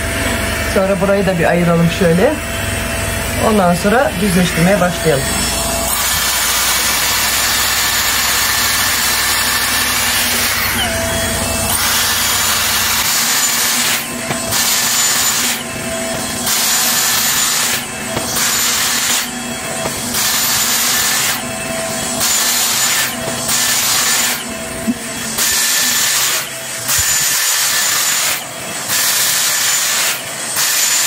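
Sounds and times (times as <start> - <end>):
hair straightener blowing hot air: 3.4 - 31.0.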